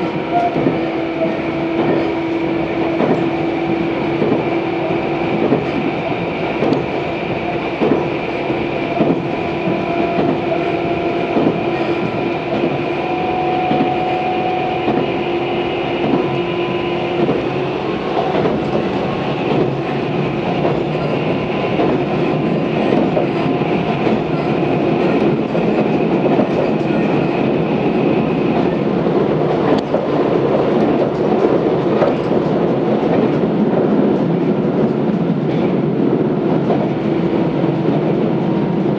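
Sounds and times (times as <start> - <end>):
train rolling rumble: 0.0 - 38.9.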